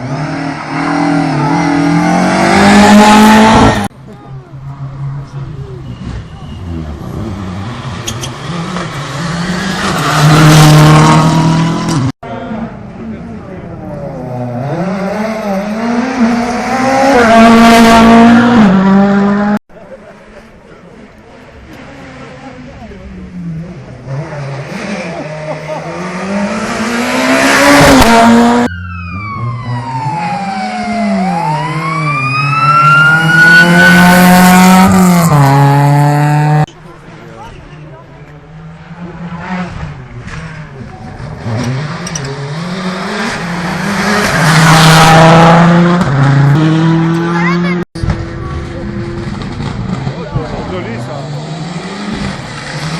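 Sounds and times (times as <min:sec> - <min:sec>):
rally car engine at high revs: 0:00.0 - 0:03.9, 0:05.0 - 0:12.8, 0:14.0 - 0:19.6, 0:21.6 - 0:28.7, 0:30.9 - 0:36.7, 0:38.4 - 0:52.9.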